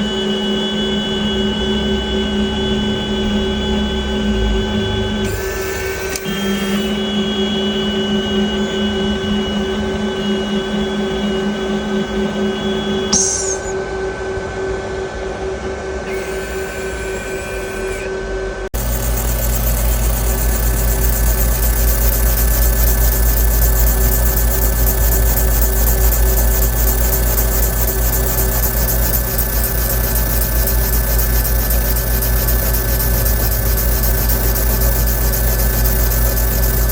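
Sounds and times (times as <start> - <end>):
deeper noisier machine sound: 0.0 - 36.9
machine whining: 0.0 - 36.9.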